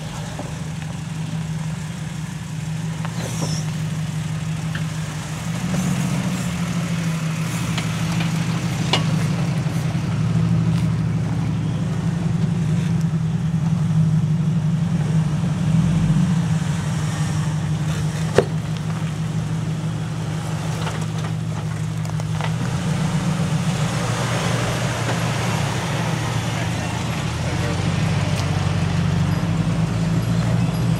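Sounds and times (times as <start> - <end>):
engines running at low speed: 0.0 - 30.9.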